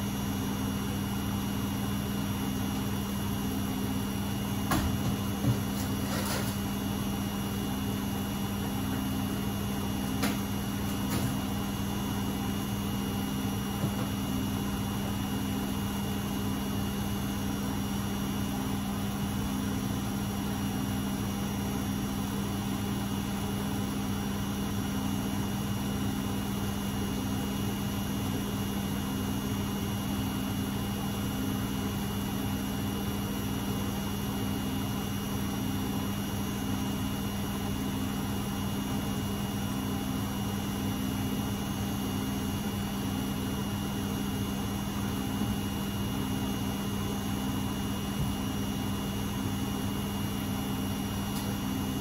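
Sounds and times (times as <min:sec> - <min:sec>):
washing machine spinning: 0:00.0 - 0:52.0.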